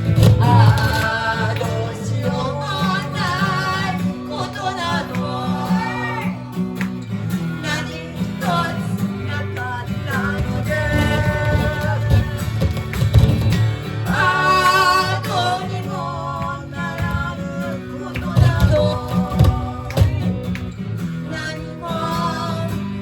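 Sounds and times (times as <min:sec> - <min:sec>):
guitar and bass: 0:00.0 - 0:23.0
person singing: 0:00.2 - 0:06.8, 0:07.6 - 0:13.3, 0:14.0 - 0:20.5.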